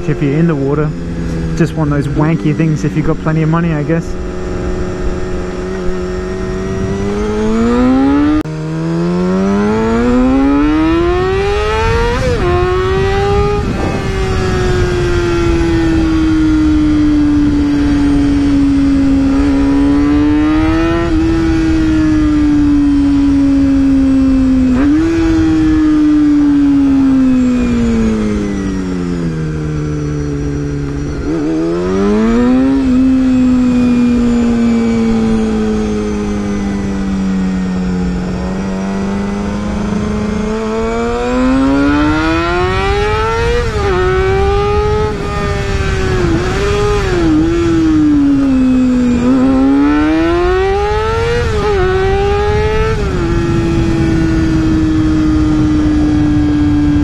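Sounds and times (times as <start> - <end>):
wind rush: 0.0 - 8.5, 9.8 - 57.0
motorcycle engine revving: 0.0 - 57.0.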